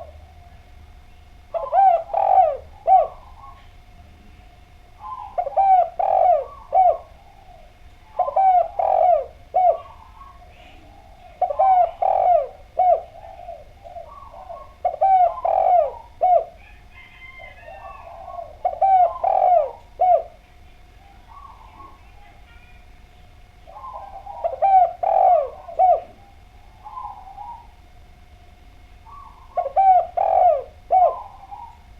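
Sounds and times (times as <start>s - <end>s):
dove cooing: 0.0s - 31.9s.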